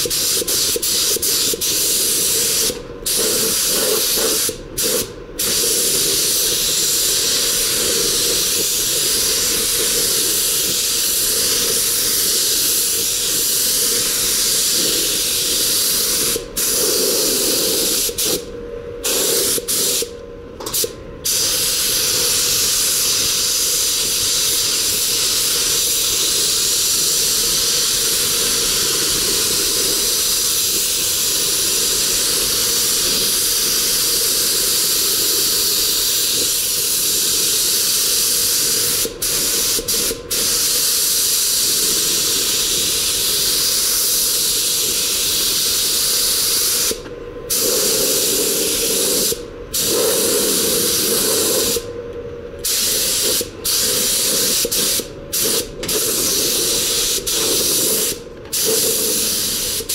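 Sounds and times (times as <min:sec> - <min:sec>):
spray gun air hissing: 0:00.0 - 0:51.9, 0:52.6 - 0:59.9.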